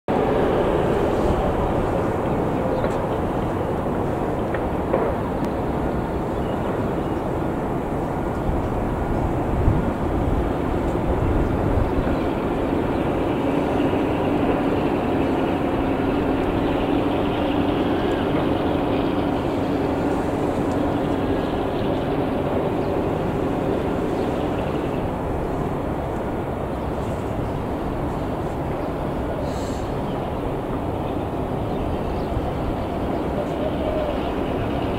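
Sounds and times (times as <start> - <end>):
distant engine drone: 0.1 - 34.9
low outdoor rumble: 0.1 - 34.9.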